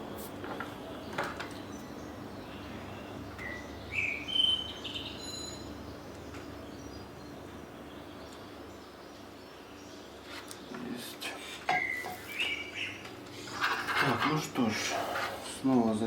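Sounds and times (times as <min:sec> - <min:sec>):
bird chirping: 0:00.0 - 0:15.7.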